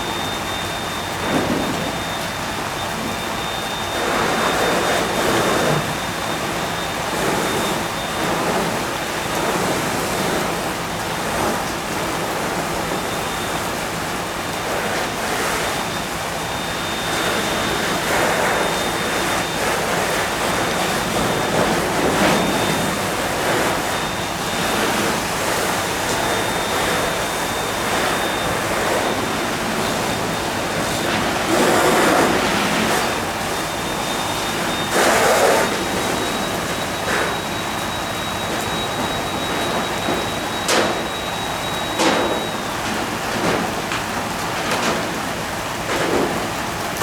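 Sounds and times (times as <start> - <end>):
faint high whine: 0.0 - 42.7
fire and hose spray rushing: 0.0 - 47.0.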